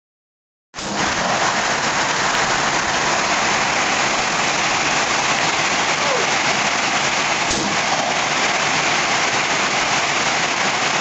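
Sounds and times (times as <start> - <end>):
rain falling: 0.8 - 11.0.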